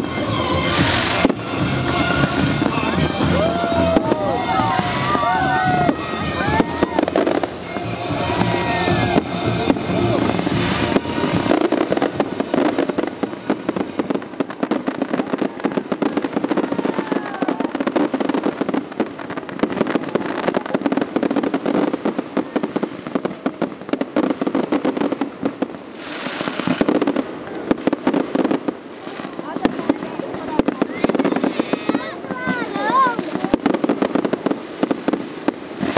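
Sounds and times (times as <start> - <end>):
firework hissing rush: 0.0 - 35.9
fireworks crackling: 0.0 - 35.9
whistling firework glides: 0.0 - 35.9.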